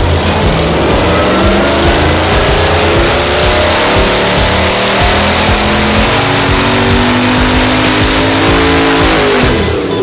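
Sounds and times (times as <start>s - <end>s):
engine at full throttle: 0.0s - 10.0s.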